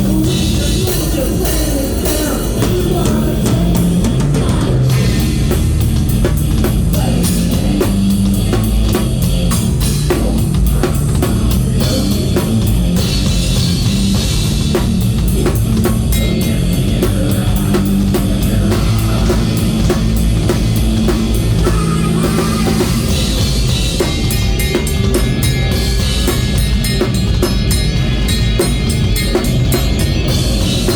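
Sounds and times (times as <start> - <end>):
fast dense drumming: 0.0 - 30.9
rock band playing live: 0.0 - 30.9.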